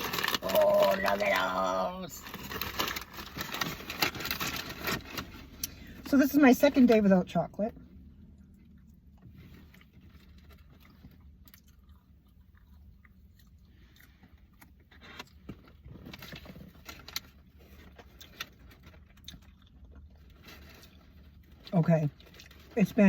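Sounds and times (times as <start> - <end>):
person chewing and eating: 0.0 - 5.9, 8.1 - 22.7.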